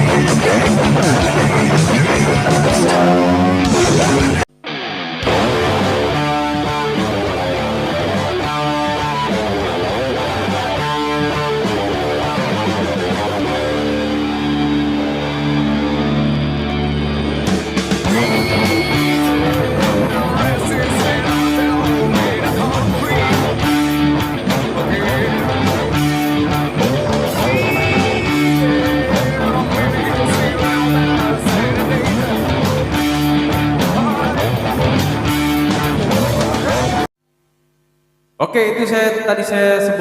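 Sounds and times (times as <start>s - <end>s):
electric guitar rock riff: 0.0s - 37.1s.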